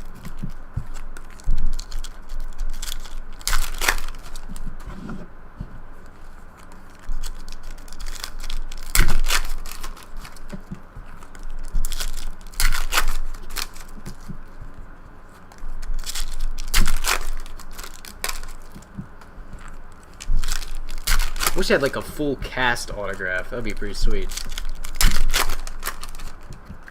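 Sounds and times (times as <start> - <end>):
card wrappers ripping and crinkling: 0.0 - 4.8, 6.0 - 14.7, 15.3 - 26.9
cards shuffling: 0.0 - 26.9.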